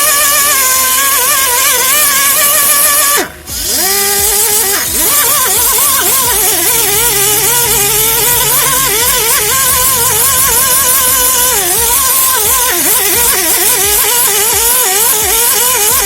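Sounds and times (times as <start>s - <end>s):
electric rotary power tool running: 0.0s - 16.0s.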